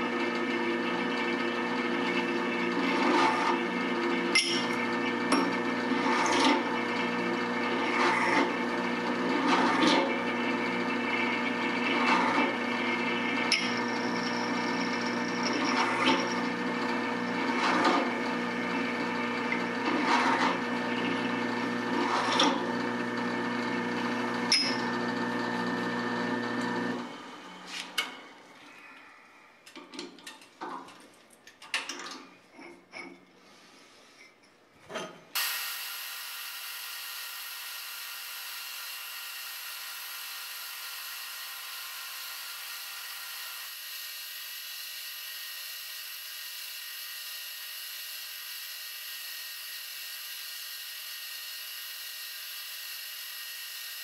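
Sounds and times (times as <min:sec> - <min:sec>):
milling machine motor humming: 0:00.0 - 0:27.7, 0:35.4 - 0:54.0
drill press motor running: 0:00.0 - 0:28.5, 0:35.4 - 0:54.0.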